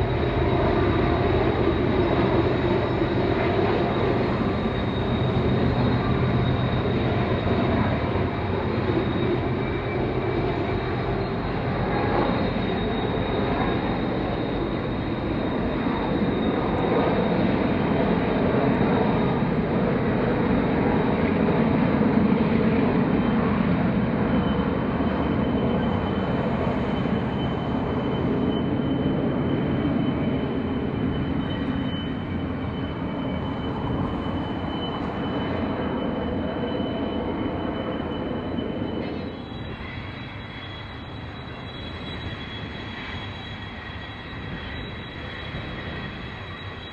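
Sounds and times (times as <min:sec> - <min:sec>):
train rumbling by: 0:00.0 - 0:46.9.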